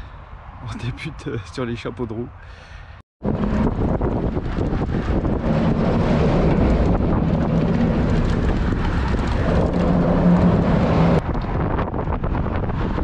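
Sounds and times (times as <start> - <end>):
road traffic going past: 0.0 - 13.0
wind rumbling on microphone: 2.3 - 13.0.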